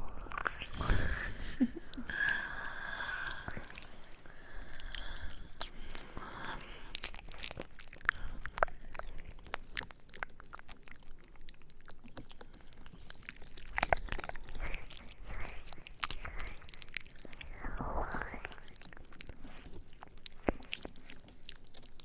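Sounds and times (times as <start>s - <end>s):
wet mouth clicks and smacks: 1.9s - 22.0s.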